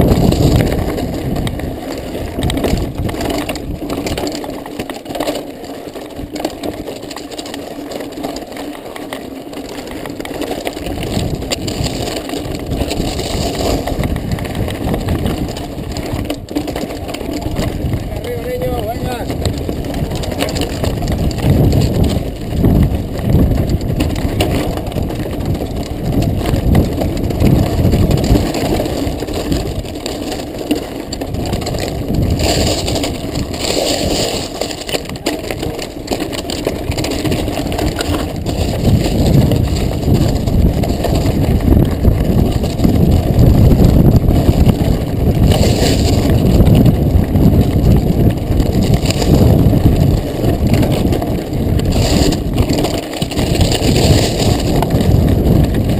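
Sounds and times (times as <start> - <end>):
bike rattling: 0.0 - 55.9
bike tyres crunching over gravel: 0.0 - 55.9.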